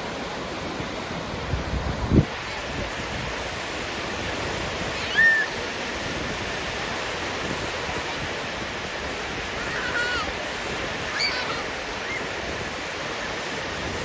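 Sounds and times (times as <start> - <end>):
surf washing onto beach: 0.0 - 14.0.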